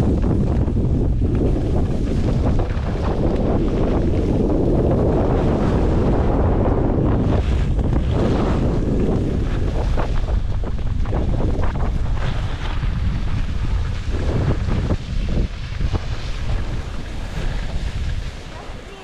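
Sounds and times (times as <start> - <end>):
skis scraping over snow: 0.0 - 19.0
wind rumbling on microphone: 0.0 - 19.0.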